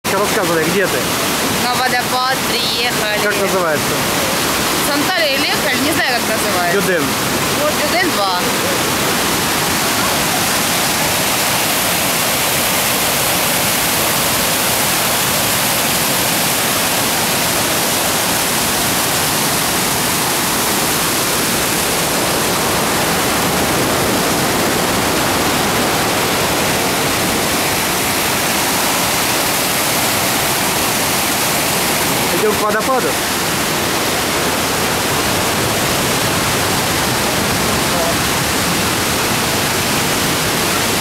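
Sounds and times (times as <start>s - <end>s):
rushing whitewater: 0.0s - 41.0s.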